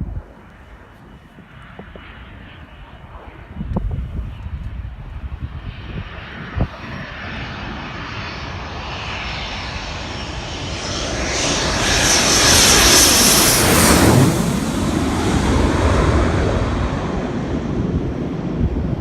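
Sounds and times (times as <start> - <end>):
fast jet engine approaching: 0.0 - 19.0.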